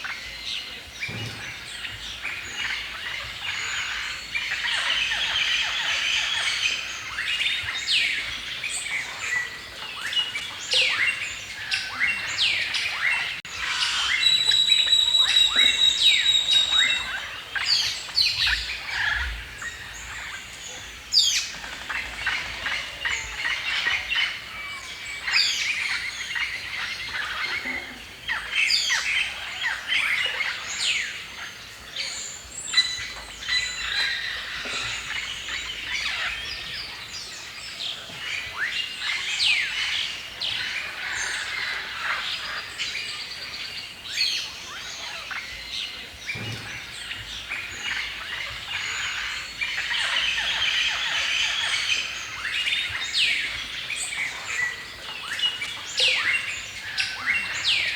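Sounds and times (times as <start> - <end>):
songbirds chirping and singing: 0.0 - 57.9.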